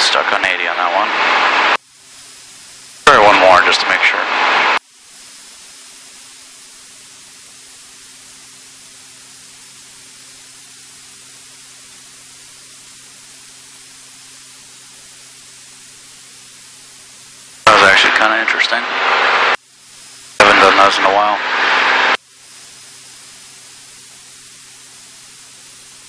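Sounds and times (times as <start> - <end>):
electronic hiss on intercom: 0.0 - 26.0
faint steady hum: 0.0 - 26.0.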